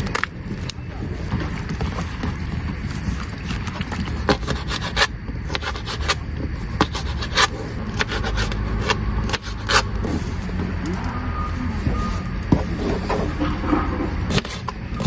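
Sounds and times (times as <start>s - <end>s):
scraping: 0.0s - 15.0s.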